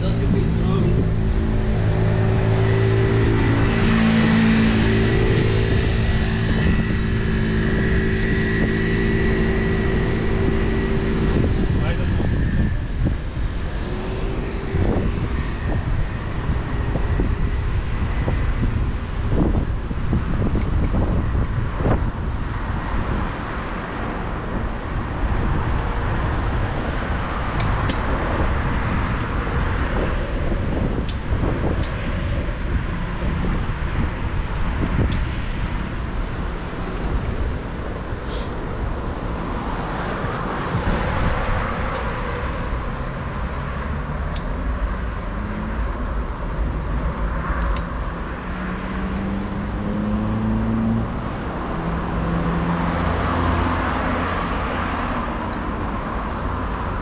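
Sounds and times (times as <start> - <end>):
traffic rumble: 0.0 - 57.0
vehicle engine rising in pitch: 0.0 - 57.0
wind noise: 0.0 - 57.0.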